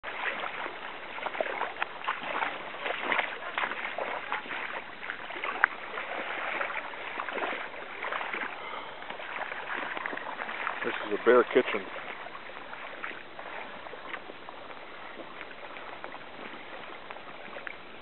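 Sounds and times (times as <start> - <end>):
small water splashes: 0.0 - 18.0
stream water running: 0.0 - 18.0.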